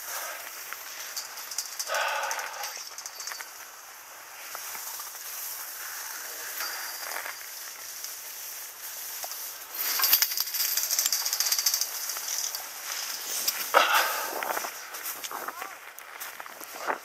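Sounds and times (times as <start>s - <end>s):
skis hissing over snow: 0.0s - 2.7s, 3.5s - 11.0s, 11.9s - 17.0s.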